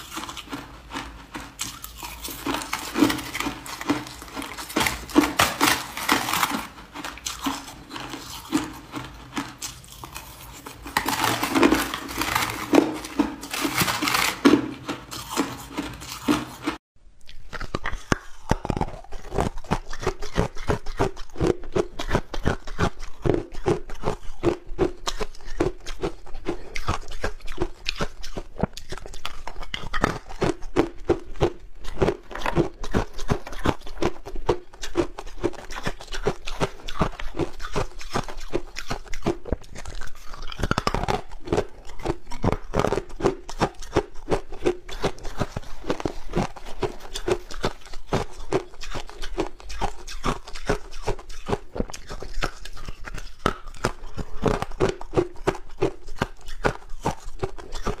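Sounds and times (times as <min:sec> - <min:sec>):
ice crunching being chewed: 0:00.0 - 0:58.0.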